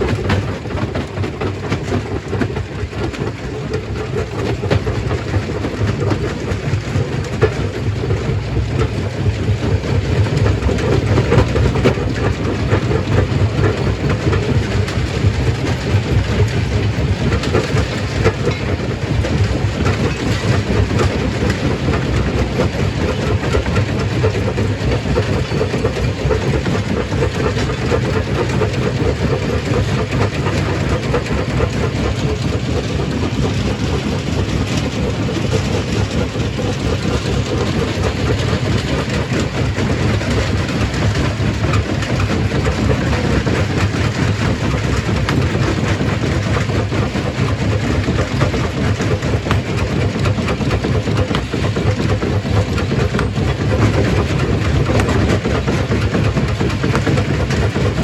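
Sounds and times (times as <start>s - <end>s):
stone crusher rumbling: 10.0s - 58.0s.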